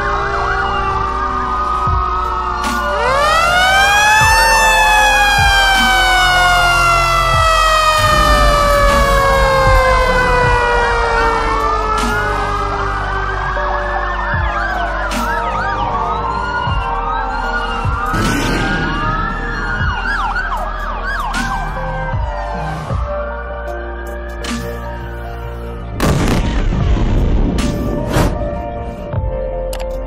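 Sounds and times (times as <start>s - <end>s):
sirens wailing: 0.0s - 29.8s.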